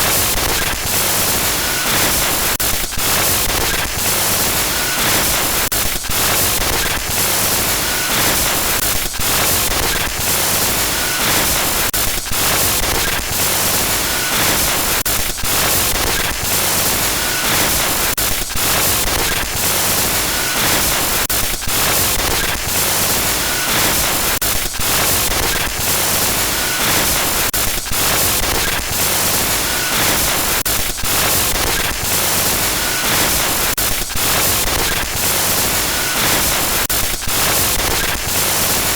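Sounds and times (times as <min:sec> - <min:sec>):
harsh static glitch noise: 0:00.0 - 0:38.9.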